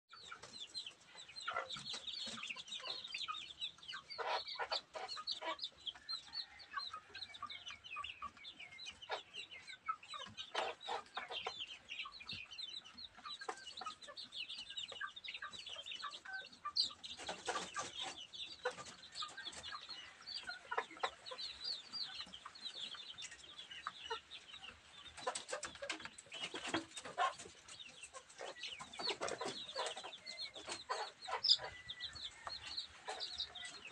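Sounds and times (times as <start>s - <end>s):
chickens clucking and calling: 0.1s - 33.9s.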